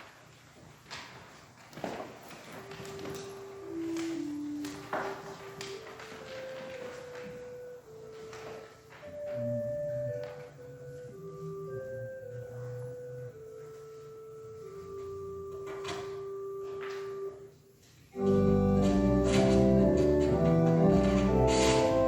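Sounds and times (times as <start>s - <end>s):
church organ playing: 2.4s - 22.0s.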